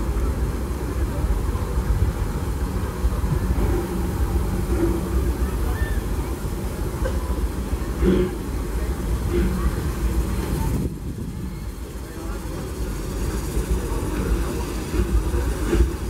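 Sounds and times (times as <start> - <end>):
faint voices: 0.0 - 16.0
steam train rumbling past: 0.0 - 16.0.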